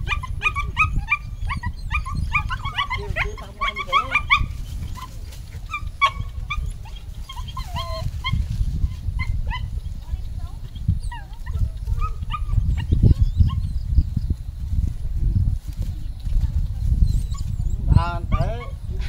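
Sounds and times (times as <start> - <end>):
puppies yelping and whining: 0.0 - 10.0, 10.6 - 14.2, 16.8 - 19.0.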